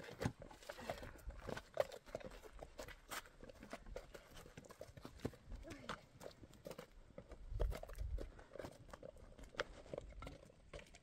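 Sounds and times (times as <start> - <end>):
footsteps on stony dirt: 0.0 - 11.0.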